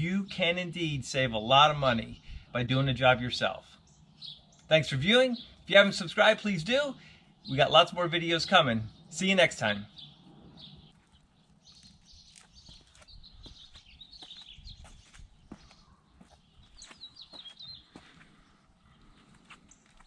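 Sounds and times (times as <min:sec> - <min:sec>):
faint birdsong chirps and warbles: 0:00.0 - 0:20.0.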